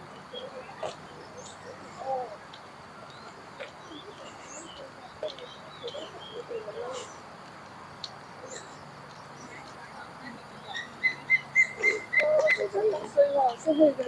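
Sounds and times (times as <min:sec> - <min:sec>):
birds with wavering low calls: 0:00.0 - 0:07.3, 0:08.0 - 0:14.0.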